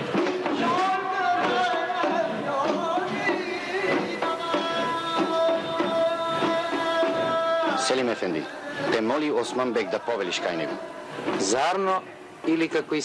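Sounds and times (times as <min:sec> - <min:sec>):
wavering melody with drum beats: 0:00.0 - 0:12.8.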